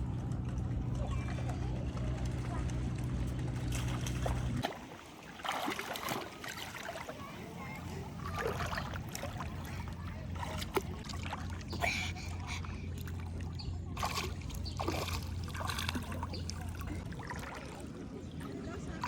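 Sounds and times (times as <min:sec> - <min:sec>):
boat motor humming: 0:00.0 - 0:19.0
water splashing and trickling: 0:00.0 - 0:19.0.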